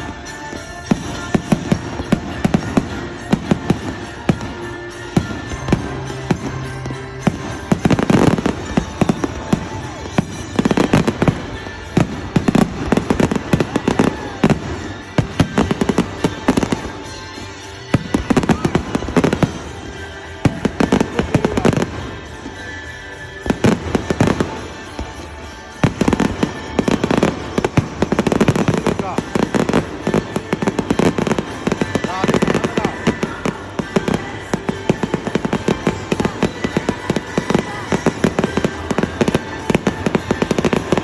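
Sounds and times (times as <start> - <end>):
fireworks banging and crackling: 0.0 - 41.0.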